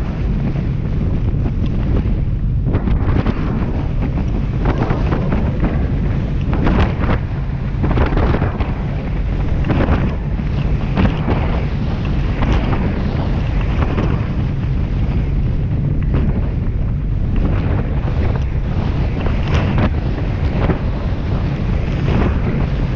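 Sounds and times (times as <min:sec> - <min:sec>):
boat engine low rumble: 0:00.0 - 0:22.9
hull slapping waves: 0:00.0 - 0:22.9
wind buffeting microphone: 0:00.0 - 0:22.9.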